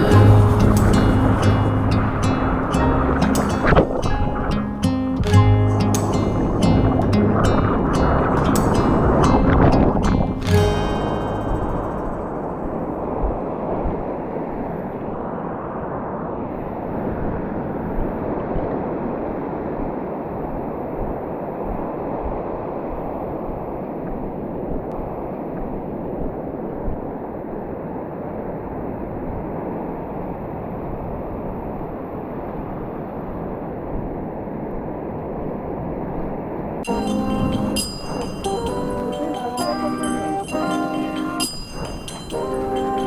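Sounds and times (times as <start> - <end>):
ocean surf: 0.0 - 33.8, 36.7 - 43.0
wind noise on microphone: 0.0 - 34.9, 36.8 - 43.0.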